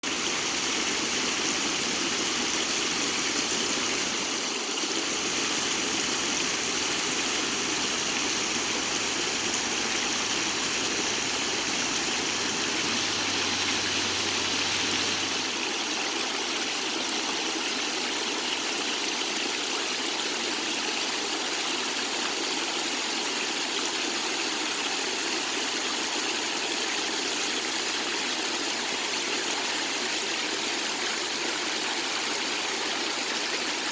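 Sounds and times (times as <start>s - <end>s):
stream water running and splashing: 0.0s - 33.9s.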